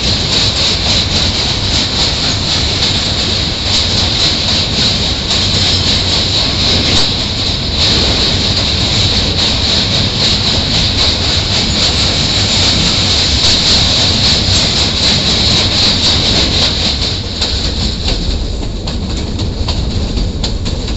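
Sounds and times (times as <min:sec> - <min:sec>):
clickety-clack of train wheels: 0:00.0 - 0:20.9
train rumbling across bridge: 0:00.0 - 0:20.9.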